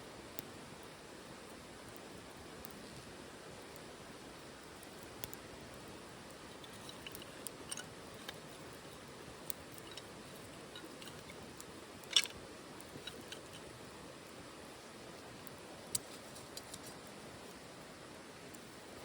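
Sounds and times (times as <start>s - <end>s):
wood fire hissing: 0.0s - 19.0s
fire crackling and popping: 0.1s - 19.0s.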